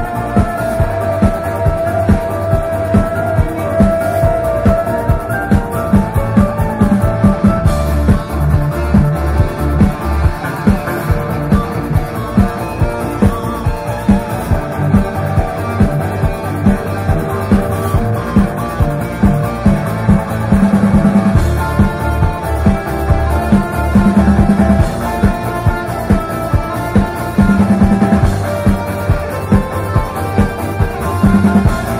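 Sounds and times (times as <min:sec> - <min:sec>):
bass guitar: 0:00.0 - 0:31.9
drum kit steady beat: 0:00.0 - 0:31.9
electric guitars: 0:00.0 - 0:31.9.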